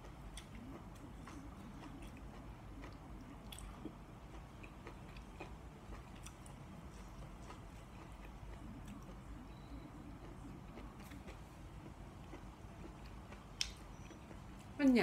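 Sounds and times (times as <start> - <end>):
person chewing food: 0.0 - 14.8.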